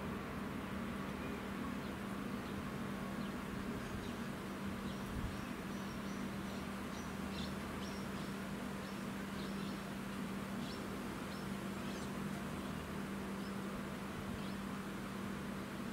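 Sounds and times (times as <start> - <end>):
low hum and hiss: 0.0 - 15.9.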